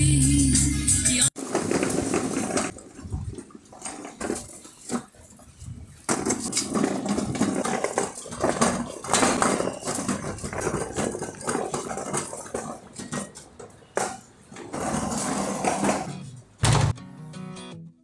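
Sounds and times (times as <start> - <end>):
hand trolley rattling on concrete: 1.4 - 16.6.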